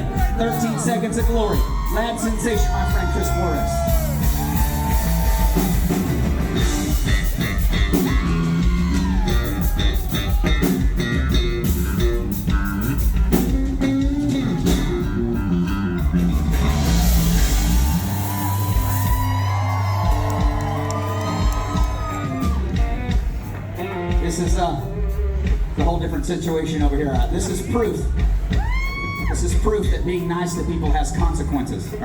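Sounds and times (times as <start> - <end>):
electric bass guitar solo: 0.0 - 25.8
drums: 0.0 - 32.0.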